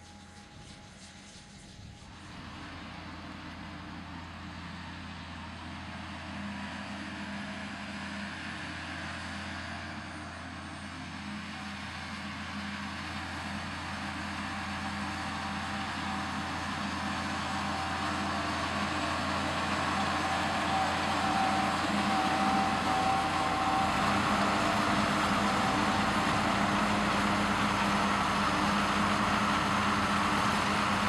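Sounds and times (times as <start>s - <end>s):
tractor diesel engine hum: 0.0s - 31.0s.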